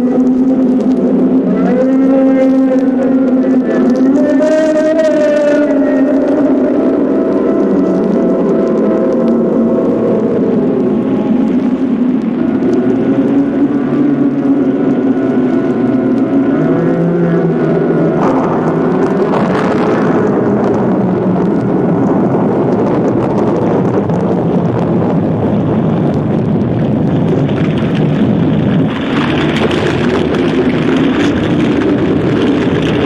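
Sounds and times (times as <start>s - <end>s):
storm wind blowing: 0.0s - 33.0s.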